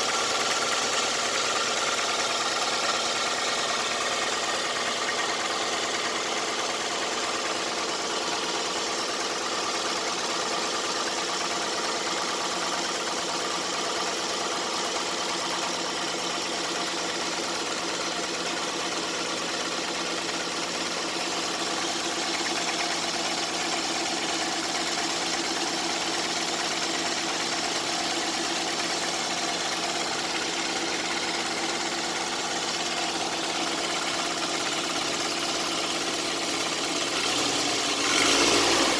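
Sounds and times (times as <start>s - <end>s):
car engine running: 0.0s - 38.9s
engine knocking: 0.0s - 38.9s.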